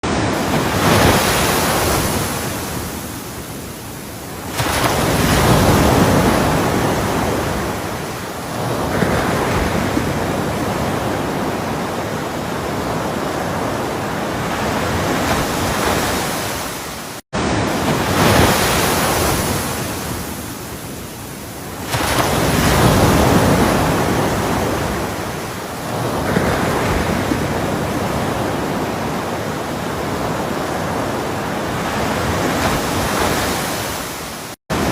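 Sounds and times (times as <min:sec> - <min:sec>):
ocean surf washing: 0:00.0 - 0:34.9.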